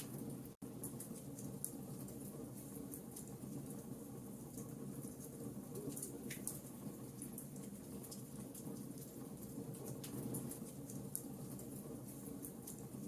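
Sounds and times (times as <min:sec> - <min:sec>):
logs crackling in fireplace: 0:00.0 - 0:13.0.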